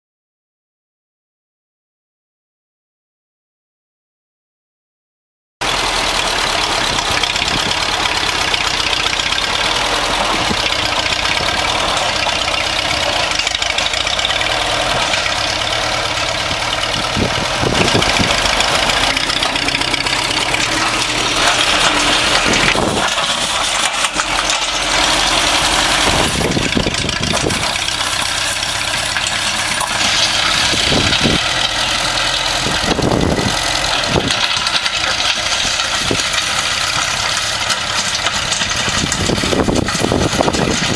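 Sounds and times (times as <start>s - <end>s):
blade dragging through gravel: 5.6s - 40.9s
tractor engine running: 5.6s - 40.9s.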